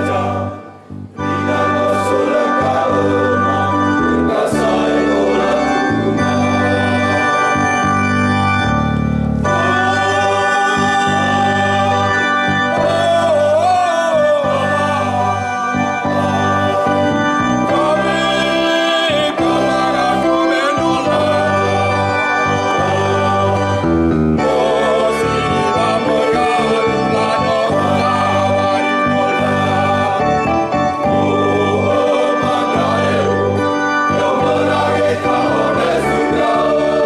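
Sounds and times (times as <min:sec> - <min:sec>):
men's choir singing a hymn: 0:00.0 - 0:07.8, 0:09.5 - 0:37.0
organ-like keyboard chords: 0:00.0 - 0:37.0.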